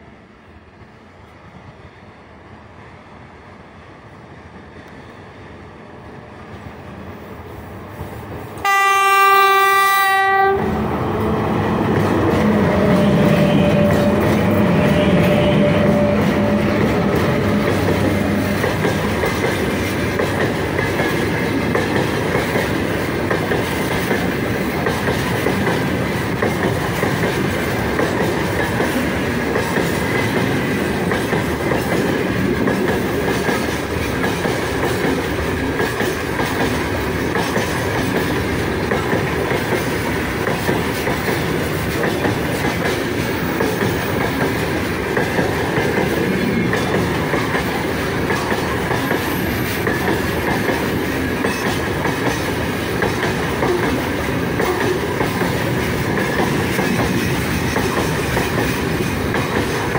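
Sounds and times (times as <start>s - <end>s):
electric locomotive hum: 0.0s - 59.9s
freight train rumble: 0.0s - 59.9s
wheels clacking over rail joints: 11.2s - 59.9s.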